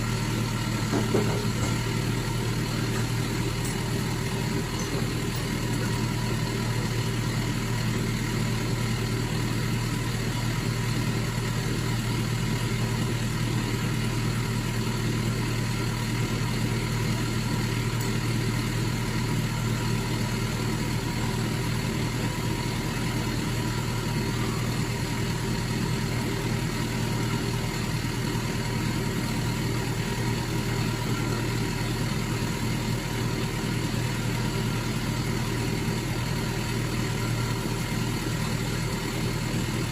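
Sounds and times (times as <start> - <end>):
lorry engine running: 0.0 - 39.9.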